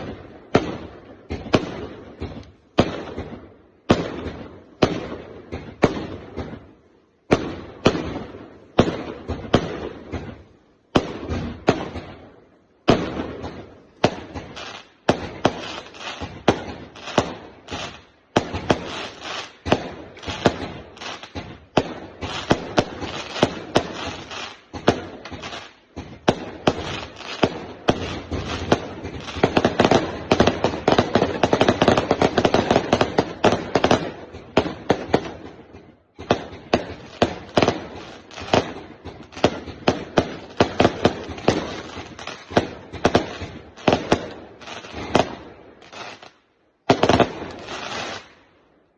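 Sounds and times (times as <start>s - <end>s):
fireworks banging: 0.0s - 48.4s.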